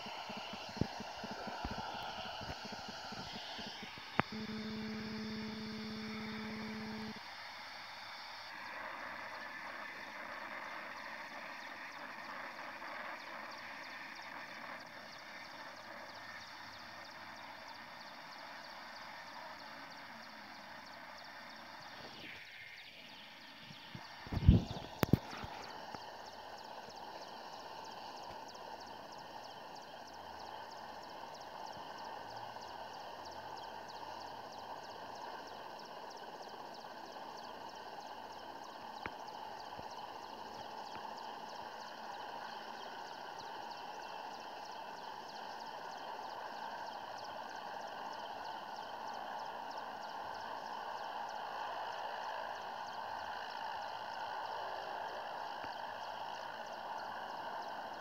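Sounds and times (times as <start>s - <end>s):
helicopter turbine and rotor: 0.0s - 58.0s.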